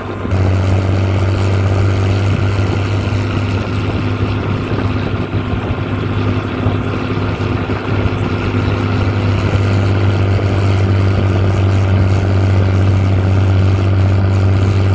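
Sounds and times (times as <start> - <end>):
diesel engine droning: 0.0 - 14.9.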